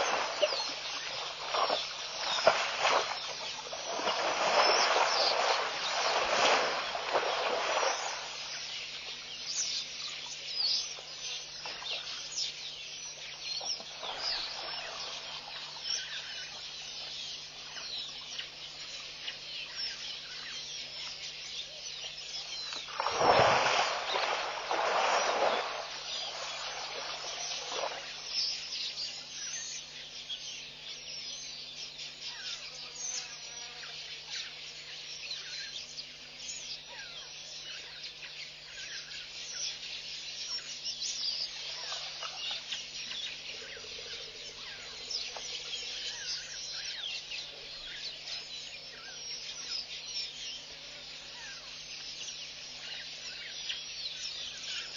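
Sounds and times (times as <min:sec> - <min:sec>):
birds chirping and calling: 0:00.0 - 0:54.9
faint low hum: 0:00.0 - 0:54.9.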